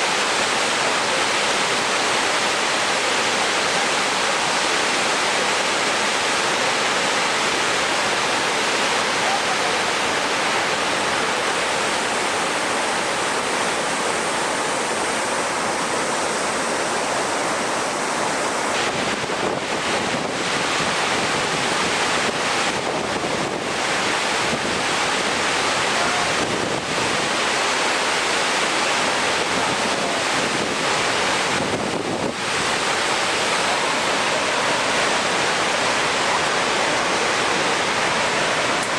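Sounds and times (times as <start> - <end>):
loud rush of water: 0.0 - 38.9.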